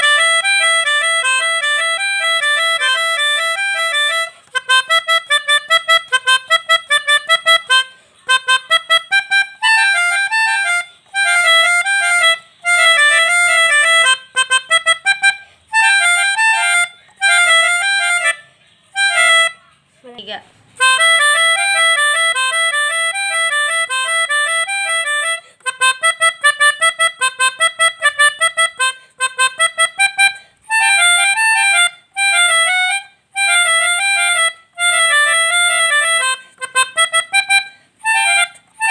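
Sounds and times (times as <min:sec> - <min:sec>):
melodica playing melodic phrases: 0:00.0 - 0:38.9.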